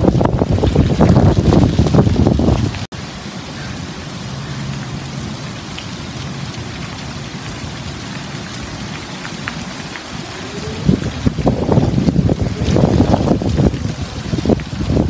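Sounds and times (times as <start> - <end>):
light rain on pavement and leaves: 0.0 - 15.0.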